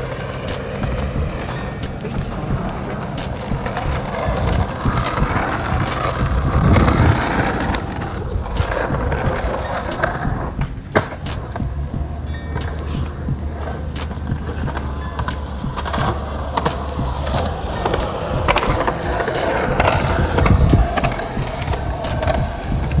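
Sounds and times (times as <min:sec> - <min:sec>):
bicycle wheels rolling on pavement: 0:00.0 - 0:23.0
wind buffeting microphone: 0:00.0 - 0:23.0.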